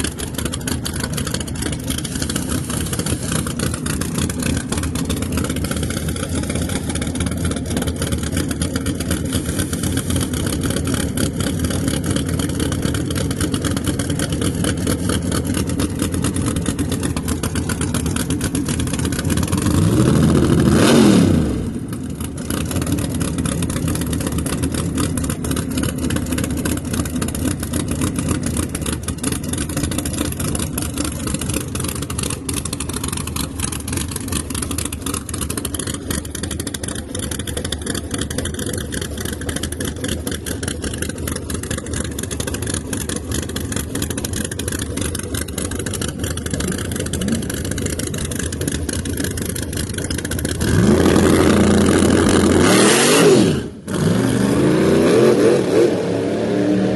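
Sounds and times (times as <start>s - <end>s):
car engines idling: 0.0s - 56.9s.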